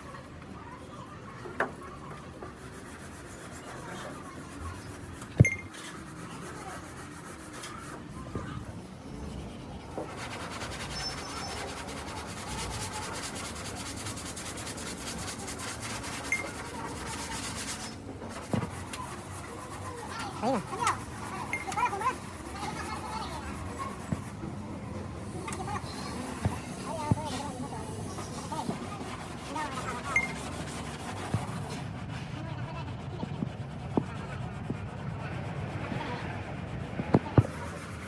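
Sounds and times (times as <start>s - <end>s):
abrasive sanding rubbing: 2.4s - 38.0s.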